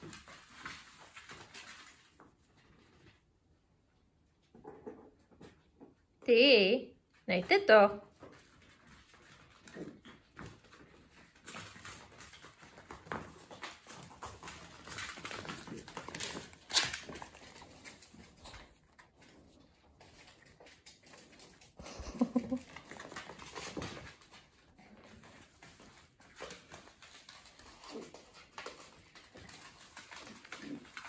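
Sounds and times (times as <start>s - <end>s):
paws scuffling on hard floor: 0.0s - 3.2s, 8.0s - 31.0s.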